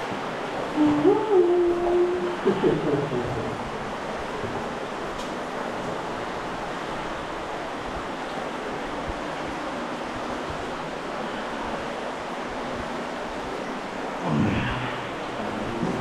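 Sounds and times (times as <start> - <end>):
water rushing in cave: 0.0 - 16.0.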